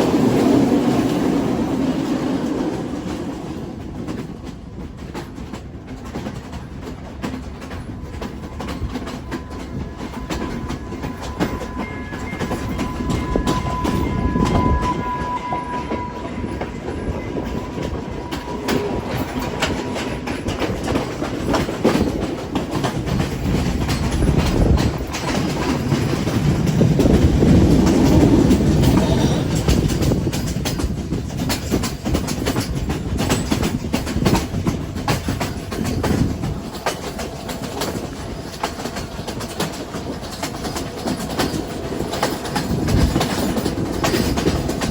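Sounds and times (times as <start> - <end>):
train rumble: 0.0 - 44.9
wheels clicking over rail joints: 0.0 - 44.9.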